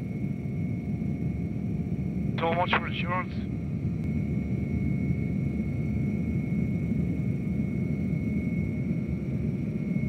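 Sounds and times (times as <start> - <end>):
aircraft engine drone: 0.0 - 10.0.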